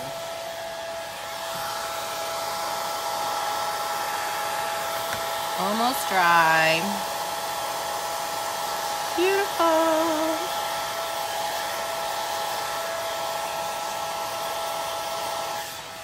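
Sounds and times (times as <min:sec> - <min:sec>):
hair dryer blowing: 0:00.0 - 0:16.0.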